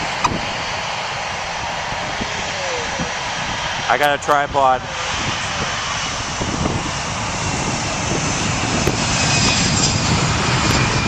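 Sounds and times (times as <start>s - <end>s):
jet engines roaring on takeoff: 0.0s - 11.0s.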